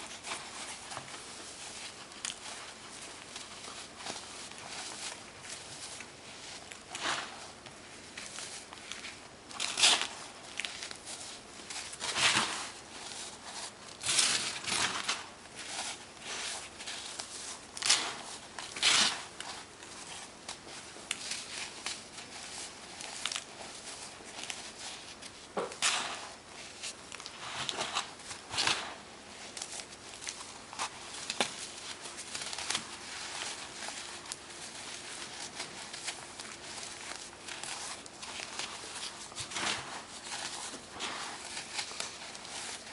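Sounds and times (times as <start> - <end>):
baking soda crunching: 0.0 - 42.9.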